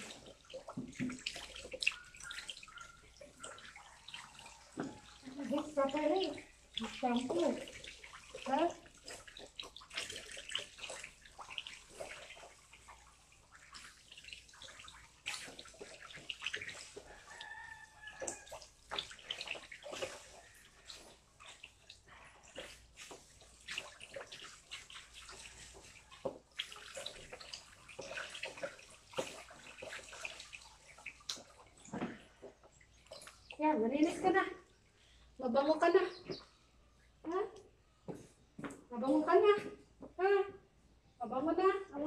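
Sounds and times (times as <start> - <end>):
water splashing and pouring: 0.0 - 35.1.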